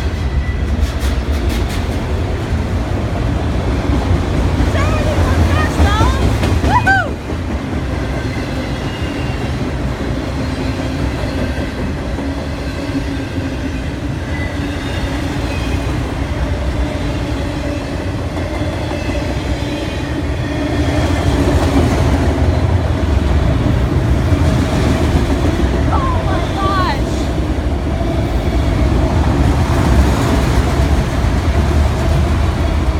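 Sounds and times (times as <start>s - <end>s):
train wheels clickety-clack: 0.0s - 25.9s, 27.7s - 32.9s
freight train rumbling by: 0.0s - 32.9s.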